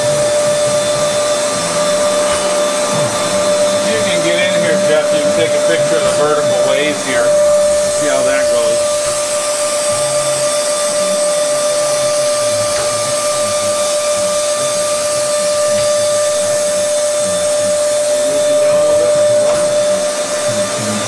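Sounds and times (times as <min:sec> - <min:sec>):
shop machinery whining: 0:00.0 - 0:21.0.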